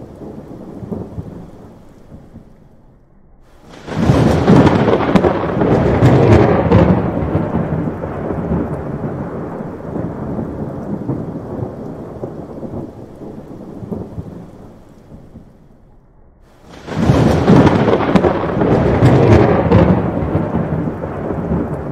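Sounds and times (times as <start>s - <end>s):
rolling thunder rumble: 0.0s - 21.9s
thunderclap crackling: 0.0s - 21.9s.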